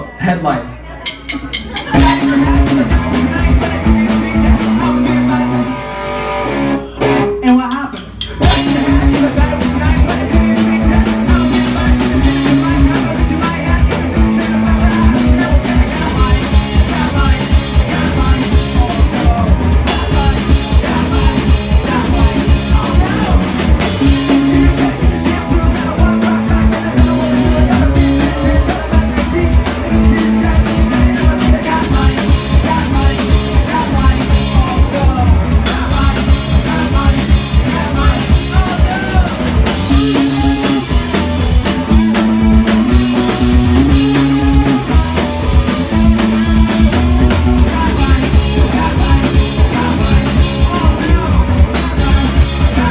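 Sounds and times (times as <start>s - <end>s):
bass guitar: 0.8s - 52.9s
distorted electric guitars: 1.0s - 52.9s
drum kit: 1.0s - 52.9s
person singing: 1.0s - 52.9s.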